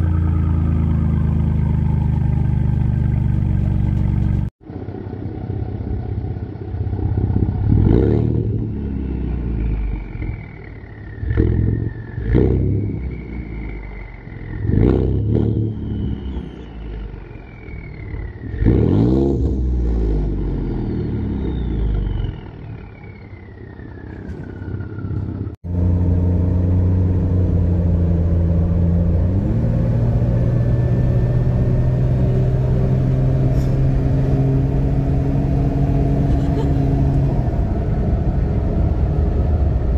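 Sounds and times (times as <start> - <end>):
car engine revving through exhaust: 0.0 - 4.5, 6.8 - 39.9
exhaust drone inside cab: 0.0 - 39.9.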